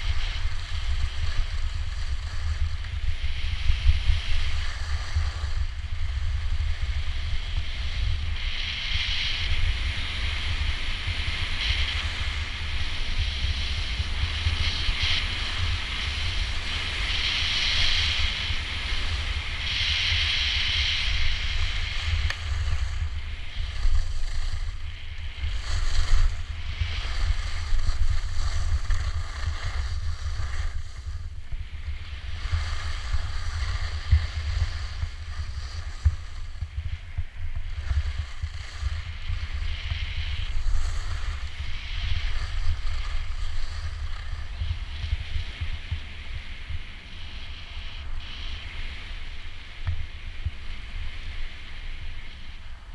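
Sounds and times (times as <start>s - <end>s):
skis sliding over snow: 0.0s - 52.9s
wind buffeting microphone: 0.0s - 52.9s.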